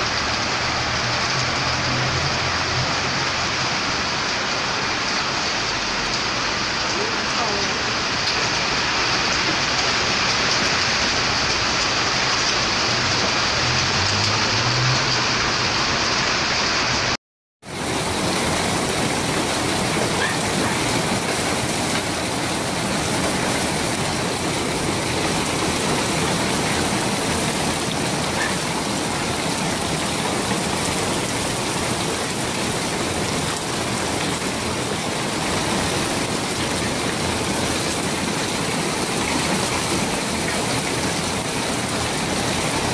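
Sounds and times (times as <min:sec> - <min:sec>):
heavy rain and hail: 0:00.0 - 0:42.9.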